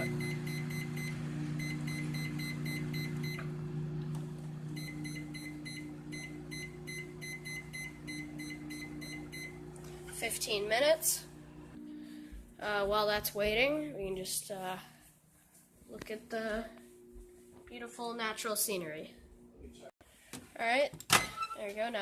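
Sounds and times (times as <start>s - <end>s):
microwave oven humming: 0.0s - 14.4s, 16.0s - 19.9s.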